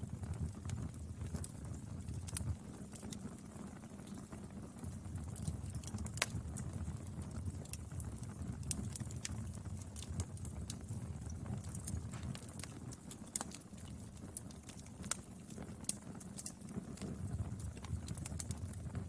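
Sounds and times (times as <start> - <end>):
fire crackling and popping: 0.0 - 19.0
fire rumbling: 0.0 - 19.0.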